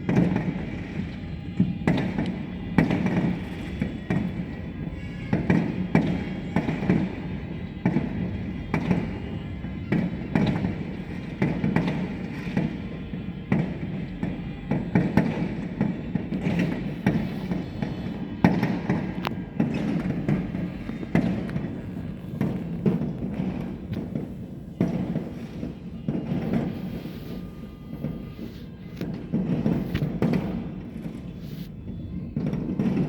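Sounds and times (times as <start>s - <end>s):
fireworks bangs: 0.0s - 33.0s
music: 0.0s - 33.0s
street noise: 0.0s - 33.0s.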